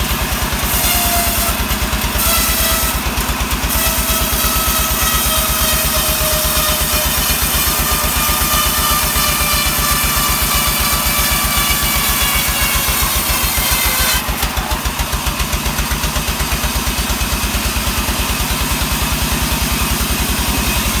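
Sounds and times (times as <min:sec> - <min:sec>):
saw blade whining in wood: 0:00.0 - 0:21.0
sawmill drive pulsing: 0:00.0 - 0:21.0.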